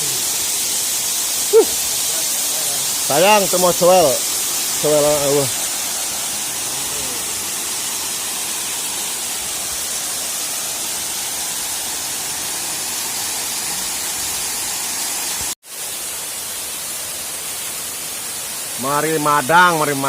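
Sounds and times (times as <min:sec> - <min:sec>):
waterfall crashing onto rocks: 0:00.0 - 0:20.0.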